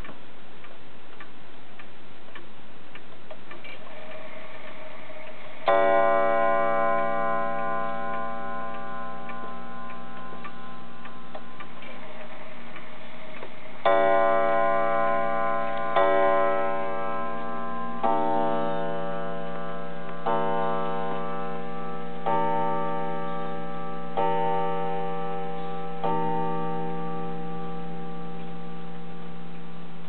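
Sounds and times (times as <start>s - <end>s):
clock ticking: 0.0s - 30.0s
clock gong striking: 5.6s - 30.0s.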